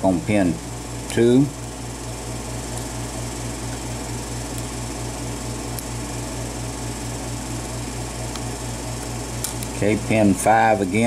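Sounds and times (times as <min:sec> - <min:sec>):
pulsing machine hum: 0:00.0 - 0:11.0.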